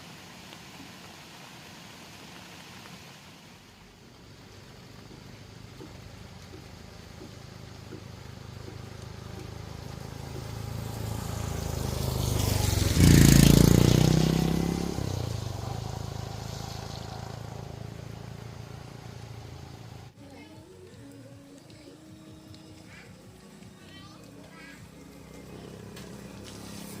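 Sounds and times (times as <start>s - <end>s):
motor vehicle passing by: 2.4s - 20.2s, 21.2s - 27.0s.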